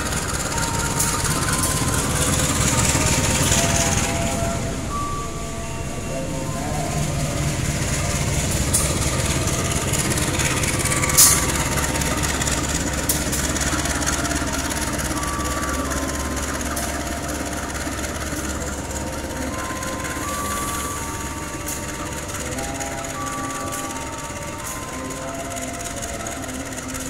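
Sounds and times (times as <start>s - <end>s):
train rumbling slowly: 0.0s - 27.0s.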